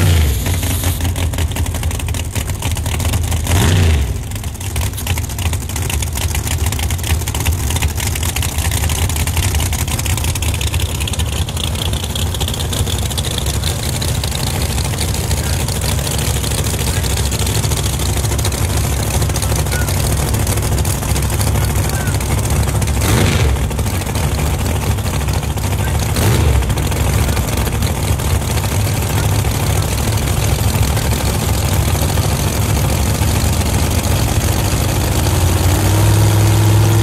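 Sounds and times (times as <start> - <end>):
engine revving: 0.0 - 1.8, 2.8 - 37.0
car engine idling loud and choppy: 0.0 - 37.0.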